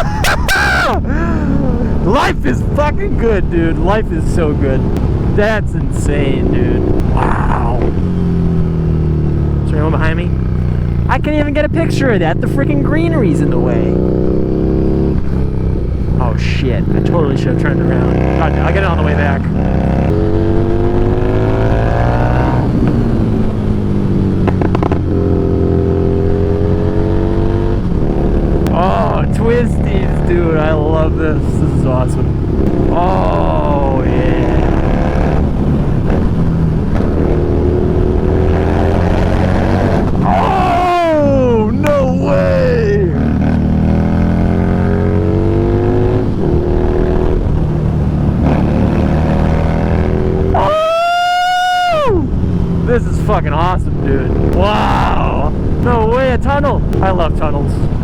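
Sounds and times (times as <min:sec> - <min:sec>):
motorcycle engine revving: 0:00.8 - 0:58.0.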